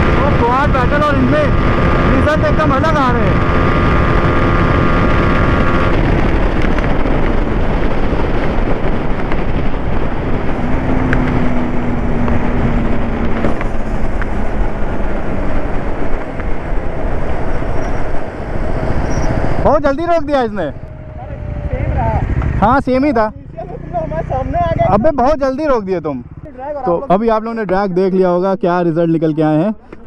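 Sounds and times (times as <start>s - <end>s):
motorcycle engine at speed: 0.0s - 27.8s
wind rush on microphone: 0.0s - 28.6s.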